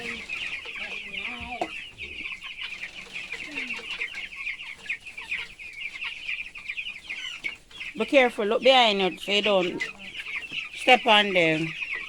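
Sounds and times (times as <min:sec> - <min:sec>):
chickens clucking: 0:00.0 - 0:12.0
chicks peeping and chirping: 0:00.0 - 0:12.0.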